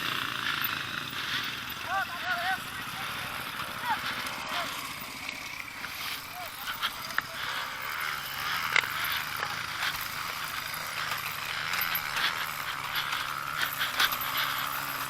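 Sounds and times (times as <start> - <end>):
clicking and rattling: 0.0 - 15.0
dirt bike engine at low revs: 0.0 - 15.0.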